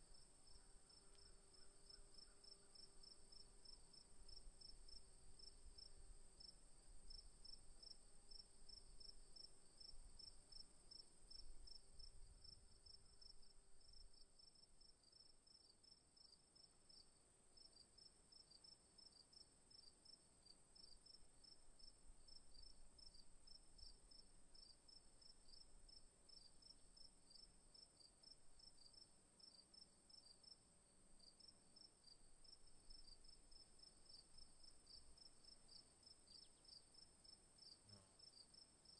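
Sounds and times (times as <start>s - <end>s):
crickets chirping: 0.0s - 17.0s, 17.6s - 38.9s.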